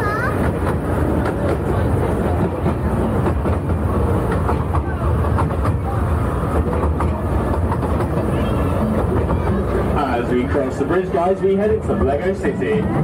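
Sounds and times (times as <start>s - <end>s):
train rumbling: 0.0s - 13.0s
wheels clicking over track: 0.0s - 13.0s.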